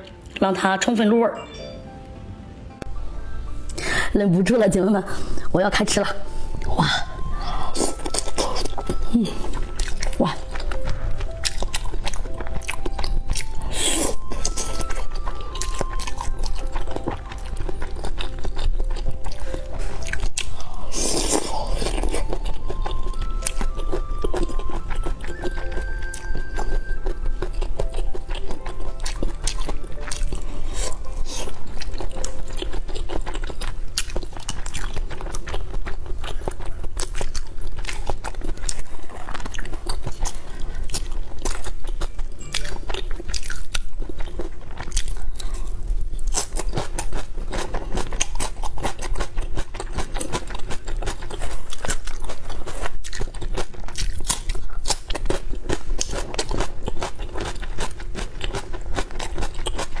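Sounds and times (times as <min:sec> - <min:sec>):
wet chewing: 0:06.5 - 1:00.0
crunching food: 0:07.4 - 1:00.0.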